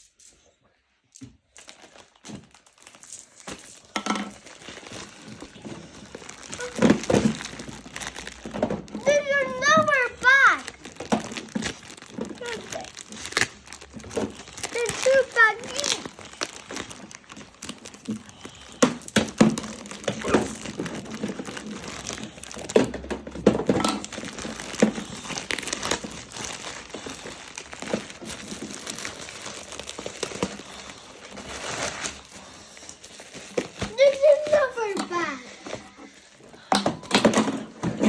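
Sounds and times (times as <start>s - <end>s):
plastic tearing: 1.2s - 36.2s
plastic bags crinkling: 1.4s - 38.0s.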